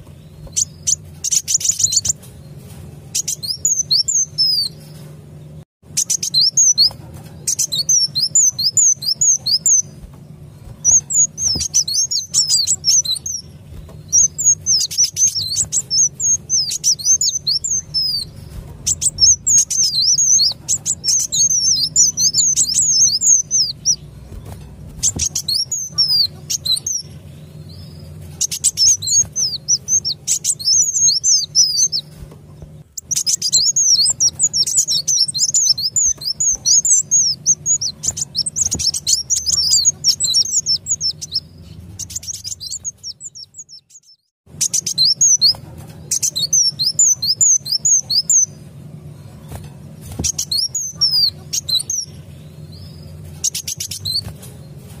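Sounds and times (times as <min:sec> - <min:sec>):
bird twittering chirps: 0:00.0 - 0:02.3, 0:03.1 - 0:05.0, 0:05.8 - 0:48.6, 0:49.2 - 0:54.8
faint low hum: 0:00.0 - 0:55.0.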